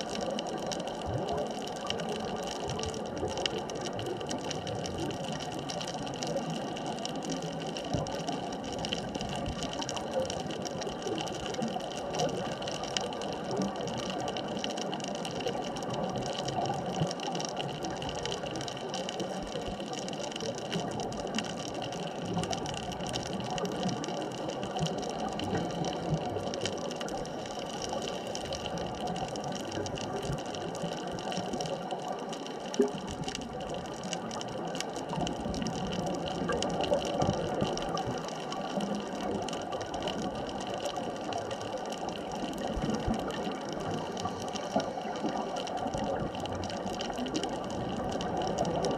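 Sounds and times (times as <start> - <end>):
underwater watery wash: 0.0 - 48.9.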